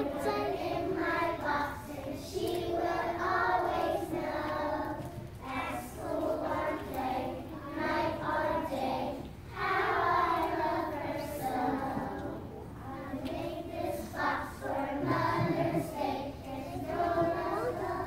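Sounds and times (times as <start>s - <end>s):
children singing: 0.0s - 18.0s.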